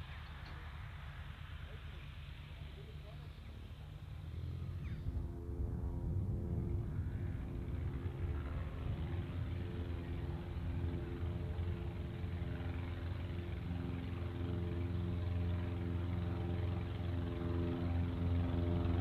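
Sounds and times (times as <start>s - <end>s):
aircraft piston engine drone: 0.0s - 19.0s.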